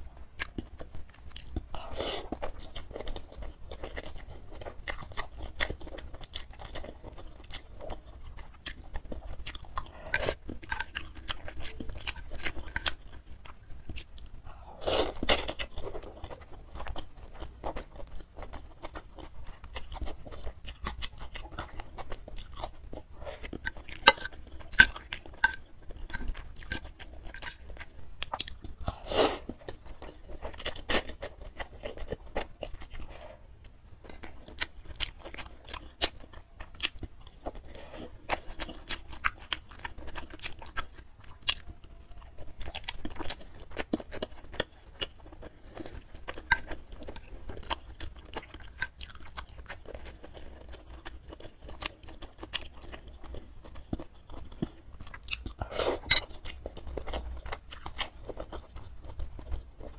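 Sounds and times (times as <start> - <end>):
wet chewing: 0.3 - 59.9.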